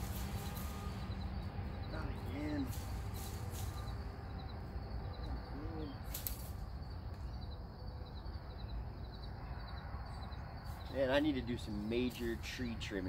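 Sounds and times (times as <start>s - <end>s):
faint high chirping: 0.1s - 13.0s.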